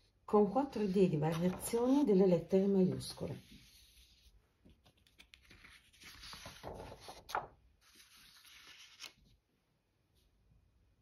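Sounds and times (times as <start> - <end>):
paper rustling: 0.6 - 9.4.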